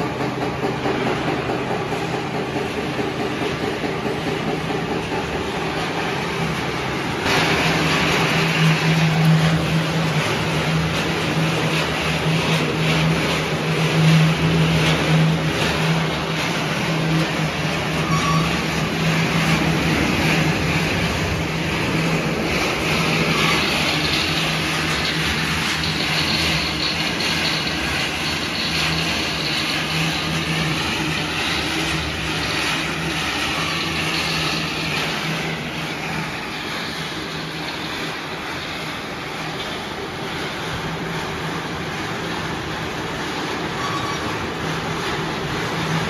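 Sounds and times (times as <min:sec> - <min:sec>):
machinery motor hum: 0:00.0 - 0:46.0
rotating drum rattling: 0:00.0 - 0:46.0.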